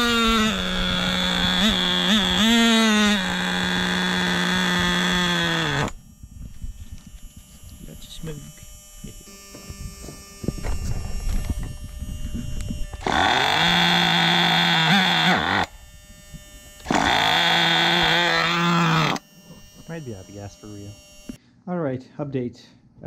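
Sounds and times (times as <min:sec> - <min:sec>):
small engine buzzing: 0:00.0 - 0:21.4.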